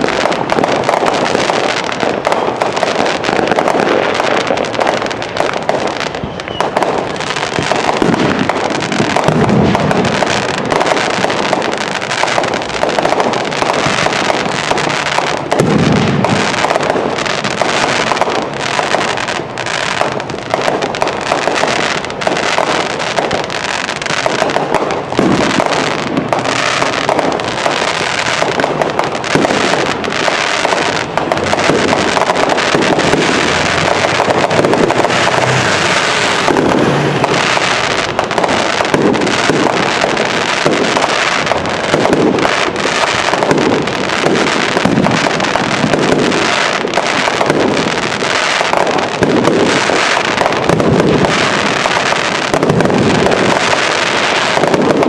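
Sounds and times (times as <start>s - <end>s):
deep firework booms: 0.0s - 55.0s
fireworks bangs: 0.0s - 55.0s.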